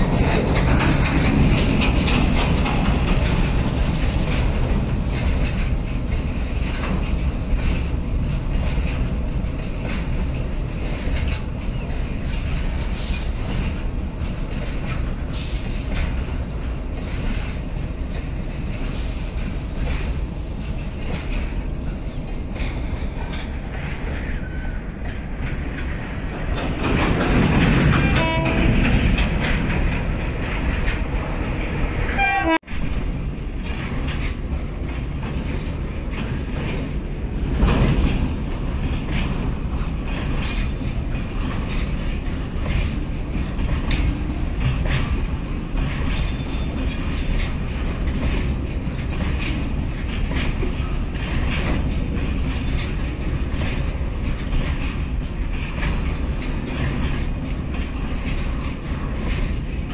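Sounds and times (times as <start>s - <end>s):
freight wagons rumbling on rails: 0.0s - 59.9s
wheels clacking over rail joints: 0.0s - 59.9s.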